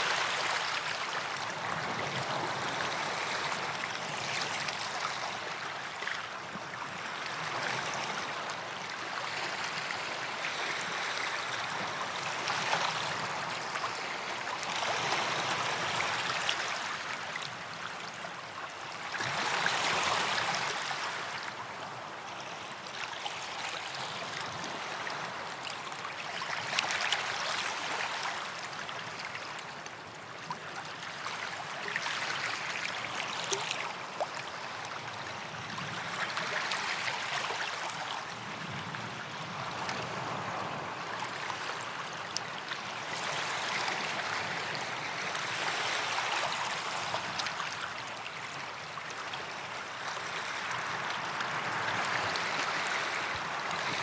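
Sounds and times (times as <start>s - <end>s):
small waves washing on beach: 0.0s - 54.0s.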